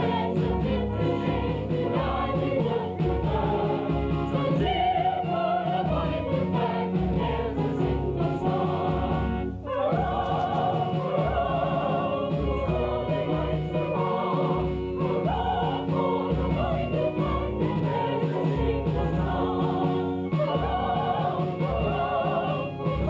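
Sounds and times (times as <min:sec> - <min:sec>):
choir singing: 0:00.0 - 0:23.0
instrumental accompaniment: 0:00.0 - 0:23.0.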